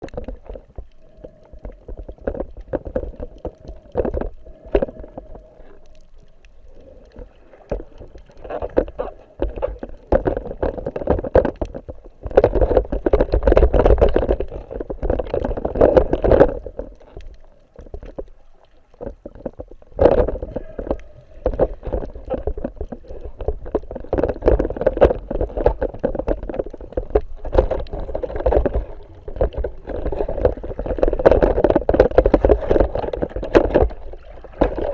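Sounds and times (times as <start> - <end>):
muffled water sloshing and gurgling: 0.0 - 34.9.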